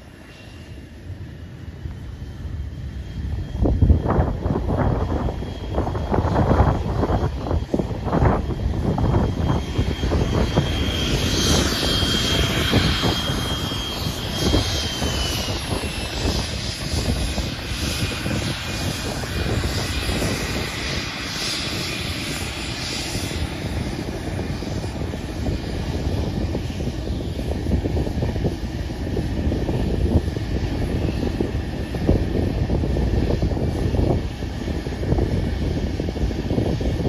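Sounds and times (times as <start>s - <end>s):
jet engine whine and rumble: 0.0s - 37.0s.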